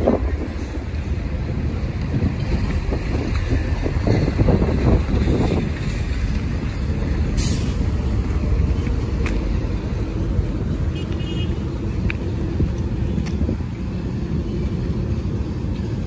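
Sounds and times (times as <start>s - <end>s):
highway traffic rumble: 0.0s - 16.0s.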